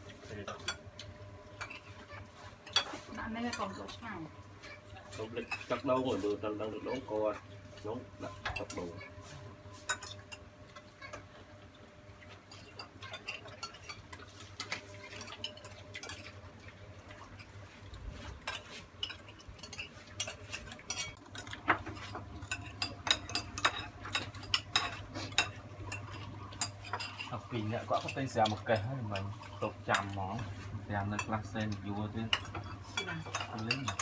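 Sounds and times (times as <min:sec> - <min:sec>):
utensils clinking against dishes: 0:00.0 - 0:11.3, 0:12.4 - 0:16.4, 0:18.4 - 0:34.0.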